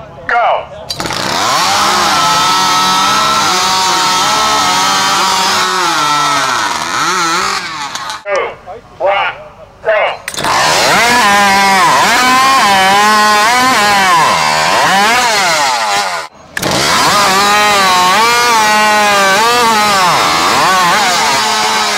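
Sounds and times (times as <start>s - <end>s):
chainsaw cutting at full throttle: 0.9s - 8.2s, 10.3s - 21.9s.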